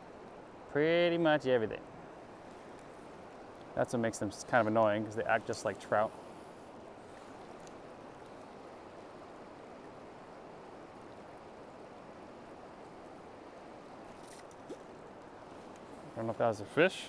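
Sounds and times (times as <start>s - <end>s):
river flowing over rocks: 1.8s - 16.9s.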